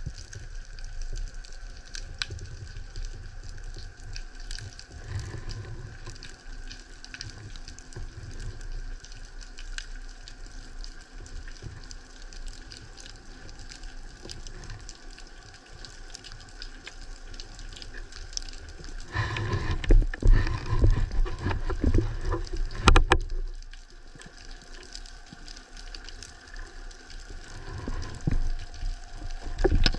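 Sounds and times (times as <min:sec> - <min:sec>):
crackle of fine clicks: 0:00.0 - 0:29.9
underwater rush of water: 0:00.0 - 0:29.9.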